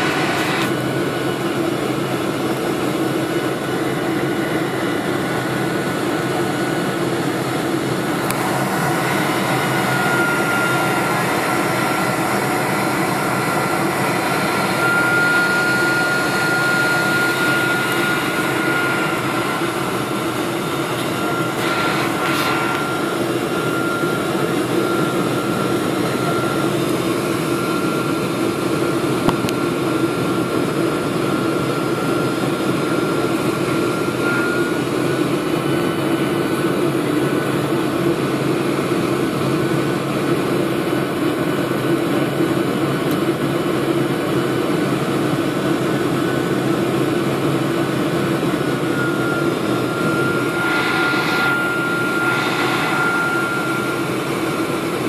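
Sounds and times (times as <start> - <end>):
thin high whine: 0.0 - 40.7, 44.9 - 55.0
jet engine and airflow noise: 0.0 - 55.0.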